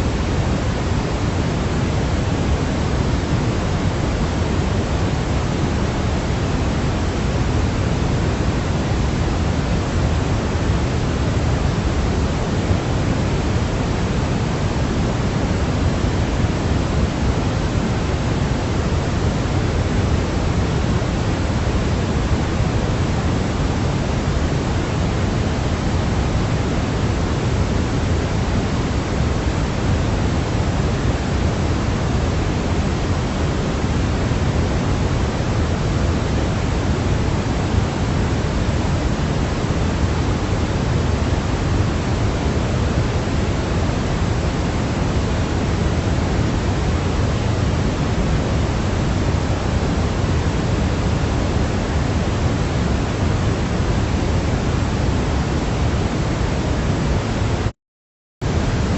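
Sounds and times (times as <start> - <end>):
steady pink noise hiss: 0.0 - 57.7, 58.4 - 58.9.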